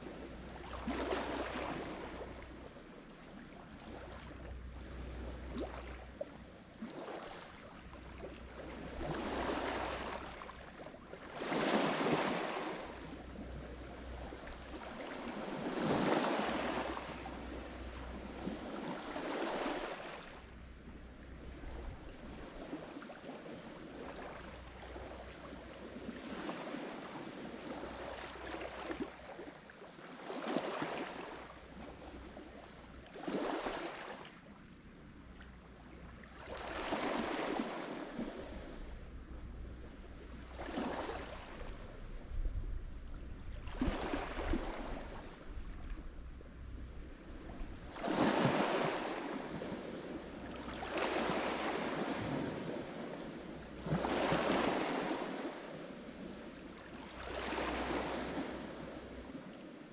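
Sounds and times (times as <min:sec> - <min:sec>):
waves breaking on shore: 0:00.0 - 0:34.6, 0:35.8 - 0:46.1, 0:47.0 - 0:59.9.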